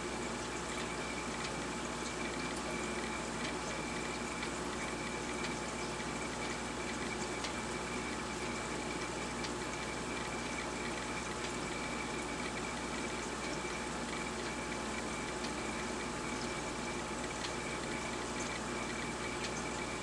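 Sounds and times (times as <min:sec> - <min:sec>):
aquarium water circulating: 0:00.0 - 0:20.0.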